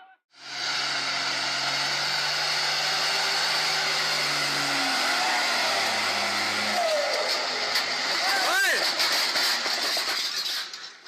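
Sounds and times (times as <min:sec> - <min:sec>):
truck engine running: 0:00.4 - 0:10.4.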